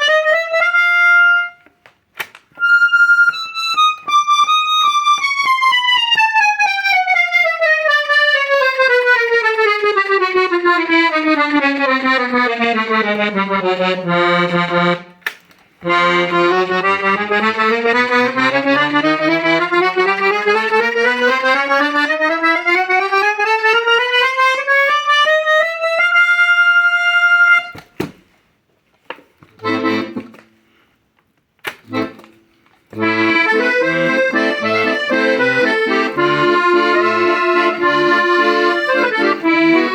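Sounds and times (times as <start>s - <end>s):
accordion scale and chords: 0.0s - 27.9s, 29.6s - 30.6s, 31.7s - 39.9s.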